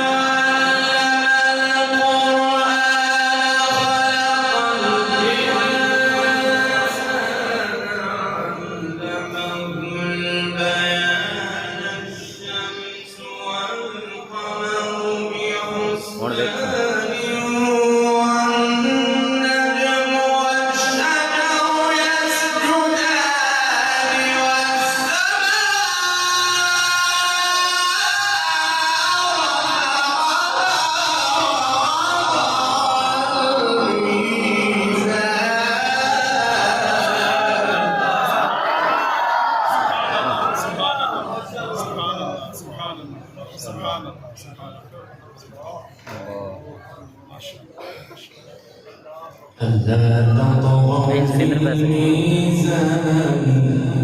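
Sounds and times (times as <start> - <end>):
man reciting melodically: 0.0 - 38.8, 39.9 - 54.0.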